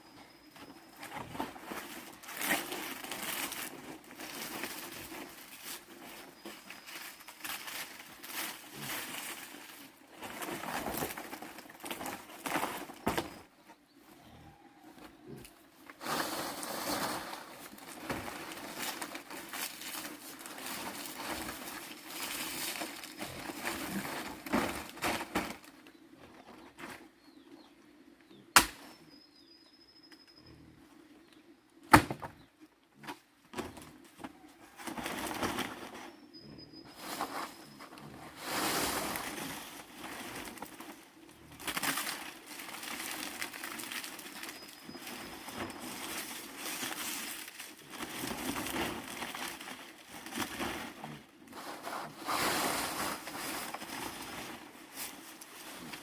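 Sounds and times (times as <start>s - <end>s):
rustling and crackling: 0.4s - 27.4s, 33.0s - 56.0s.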